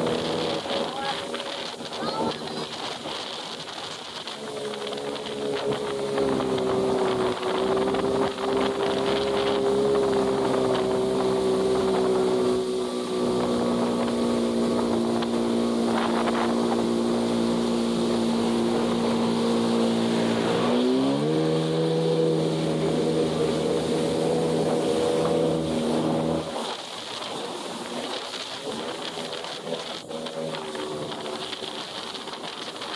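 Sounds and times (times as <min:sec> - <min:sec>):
jet ski engine running: 0:00.0 - 0:32.9
water spray: 0:00.0 - 0:32.9
wind noise: 0:00.0 - 0:32.9.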